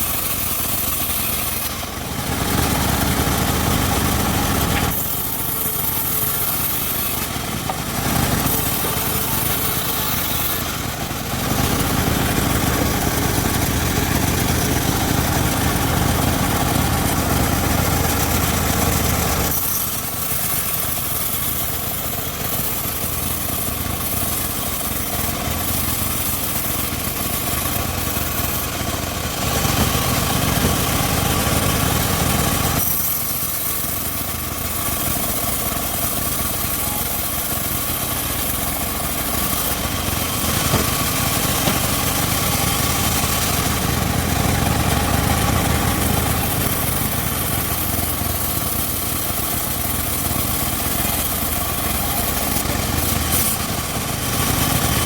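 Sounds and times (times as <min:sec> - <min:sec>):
engine-driven circular saw running: 0:00.0 - 0:55.0.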